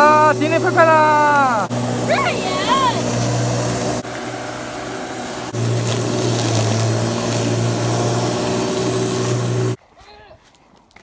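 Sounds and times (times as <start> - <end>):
lawn mower motor hum: 0.0 - 9.8.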